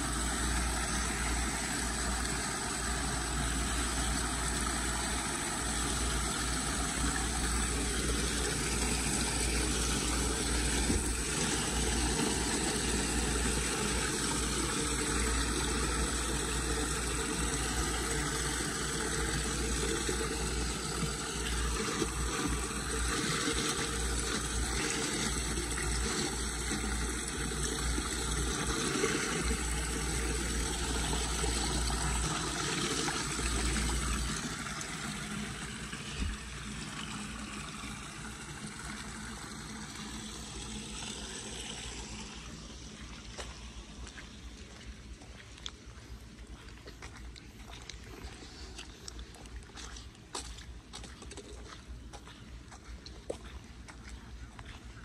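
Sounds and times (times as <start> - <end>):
floodwater rushing through drain grate: 0.0 - 45.8.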